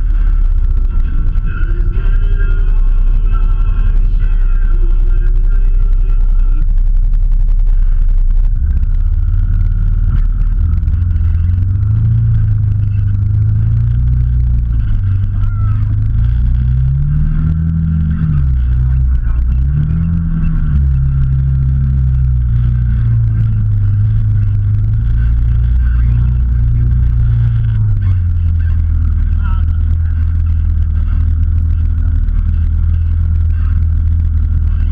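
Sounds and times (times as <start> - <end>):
off-road vehicle engine revving: 0.0 - 34.9.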